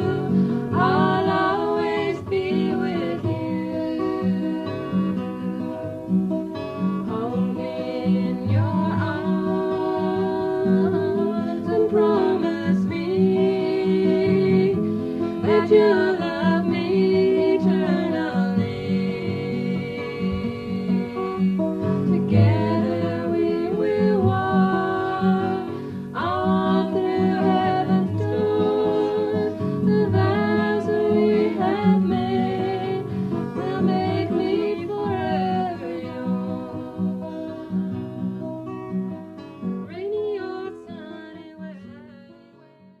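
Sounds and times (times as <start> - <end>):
person singing: 0.0 - 5.5, 7.1 - 38.4
acoustic guitar: 0.0 - 43.0.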